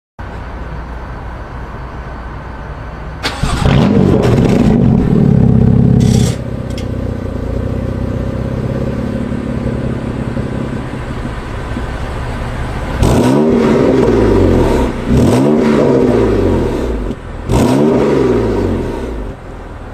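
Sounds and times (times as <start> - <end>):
car engine revving: 3.2 - 19.9.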